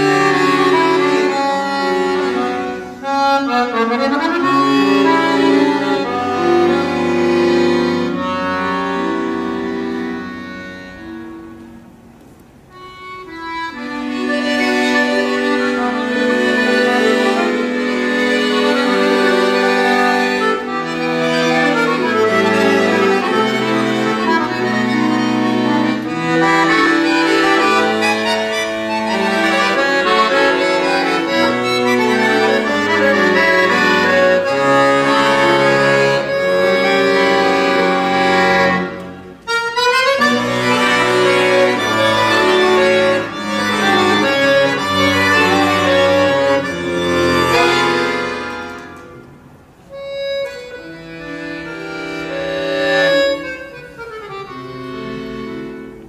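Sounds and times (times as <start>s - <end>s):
accordion playing classical piece: 0.0s - 56.0s.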